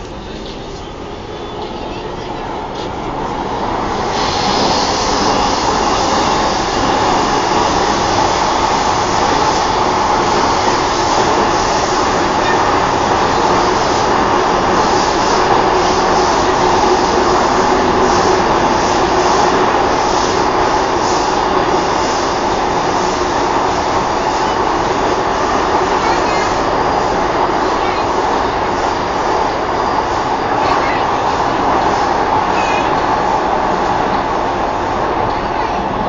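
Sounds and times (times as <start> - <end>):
train rumble and rail noise: 0.0 - 36.0.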